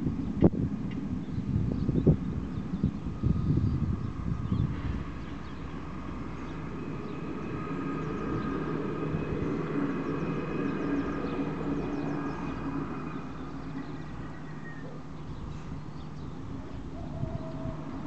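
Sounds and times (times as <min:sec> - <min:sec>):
diesel train engine drone: 0:00.0 - 0:18.0
wind gust on microphone: 0:00.0 - 0:18.0.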